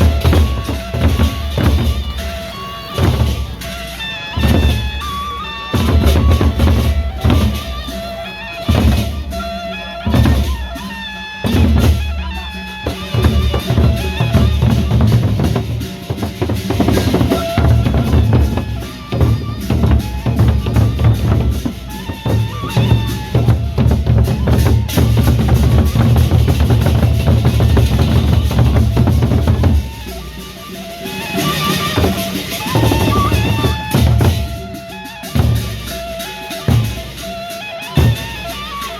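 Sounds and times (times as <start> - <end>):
big drums beating: 0.0 - 38.9
cymbals clashing: 0.0 - 38.9.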